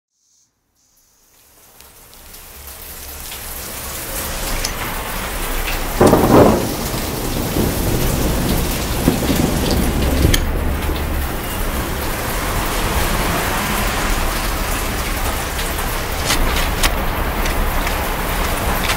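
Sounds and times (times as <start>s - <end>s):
steady rain: 0.6s - 18.9s
thunder rumble: 3.6s - 18.9s.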